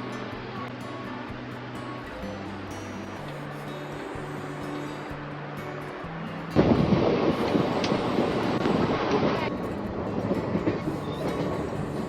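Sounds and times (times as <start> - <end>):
loud dense rushing noise: 0.0 - 12.0.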